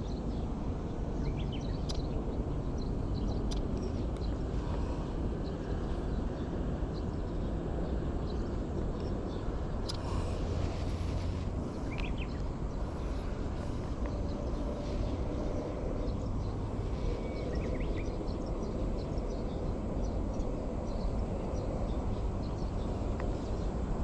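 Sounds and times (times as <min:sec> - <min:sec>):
low rumble: 0:00.8 - 0:22.7.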